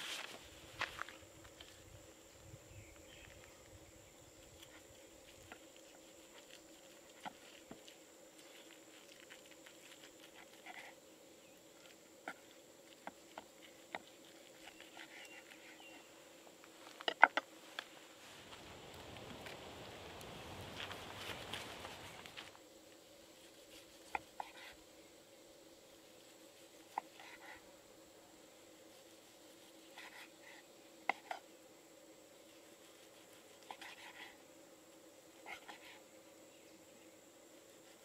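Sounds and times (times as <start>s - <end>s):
faint hum: 0.0s - 38.0s.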